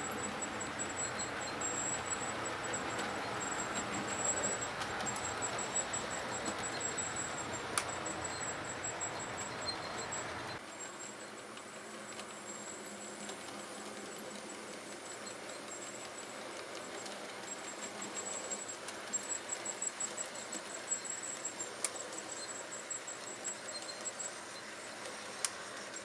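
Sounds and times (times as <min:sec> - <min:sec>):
model train motors buzzing: 0:00.0 - 0:26.0.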